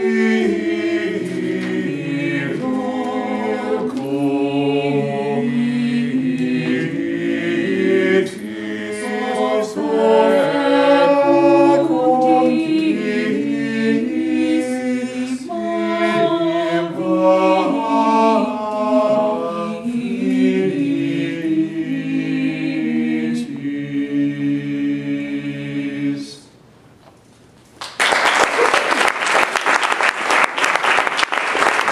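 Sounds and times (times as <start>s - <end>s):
a cappella choir singing: 0.0s - 26.6s.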